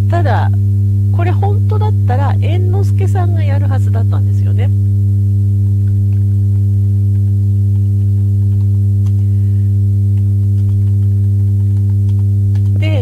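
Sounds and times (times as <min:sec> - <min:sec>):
low electrical mains hum: 0:00.0 - 0:13.0.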